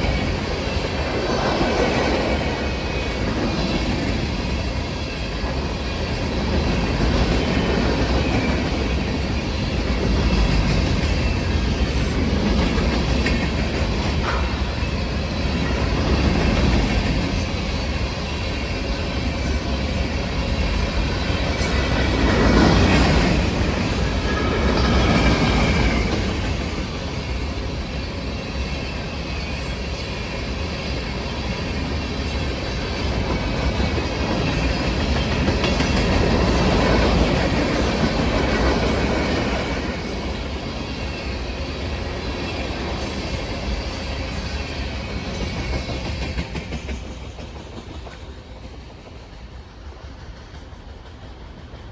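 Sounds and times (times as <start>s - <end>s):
freight train wheels clacking: 0.0s - 51.9s.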